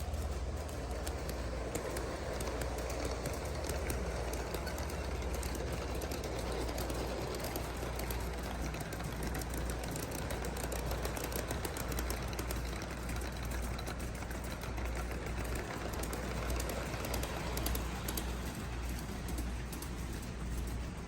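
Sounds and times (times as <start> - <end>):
light clicking of train wheels: 0.0 - 21.0
model train running hum: 0.0 - 21.0.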